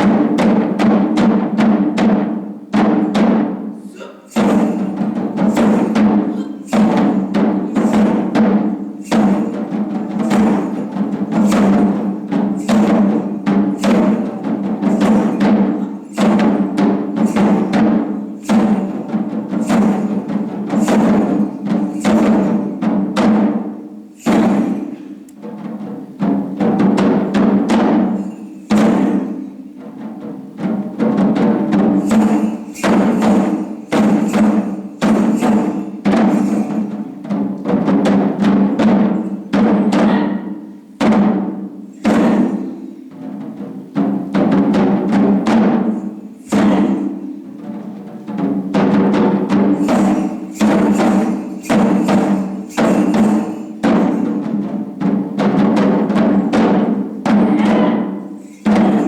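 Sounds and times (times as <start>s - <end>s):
heavy taiko drum strokes: 0.0s - 59.0s.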